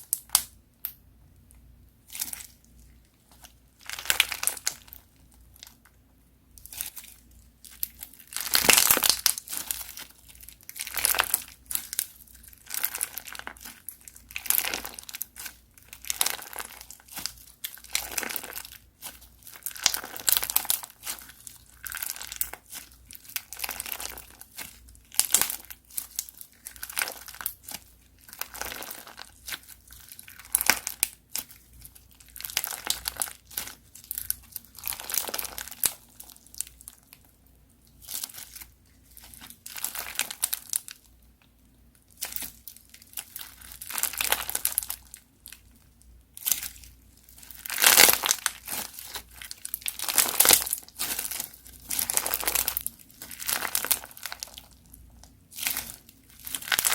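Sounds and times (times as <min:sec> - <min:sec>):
crunchy slime crackling: 0:02.0 - 0:41.2, 0:41.8 - 0:56.9.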